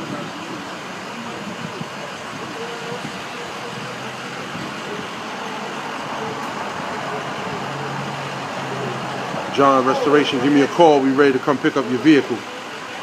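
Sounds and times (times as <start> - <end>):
engine running with low hum: 0.0 - 13.0
street traffic: 0.0 - 13.0.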